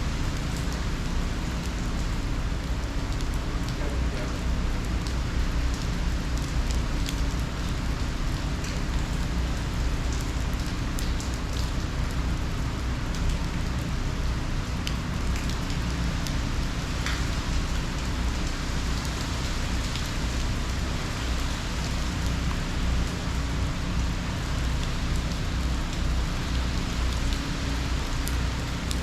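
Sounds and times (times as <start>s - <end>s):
heavy rain falling: 0.0s - 29.0s
raindrops ticking: 0.1s - 29.0s.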